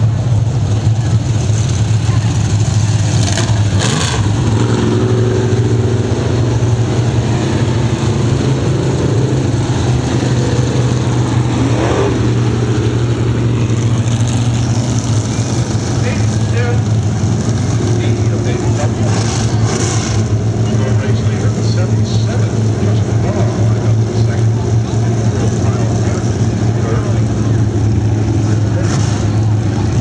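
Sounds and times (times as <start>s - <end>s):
car revving up: 0.0s - 30.0s
stock car engines rumbling: 0.0s - 30.0s.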